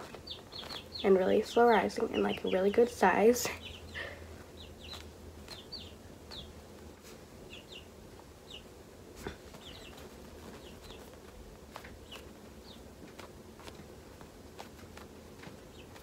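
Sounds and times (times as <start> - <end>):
faint bird chirping: 0.0 - 13.8, 14.8 - 16.0.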